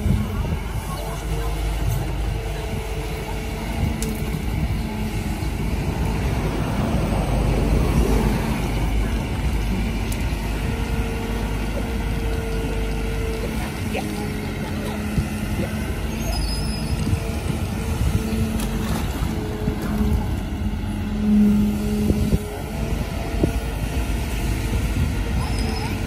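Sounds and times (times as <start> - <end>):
excavator engine working: 0.0 - 26.0.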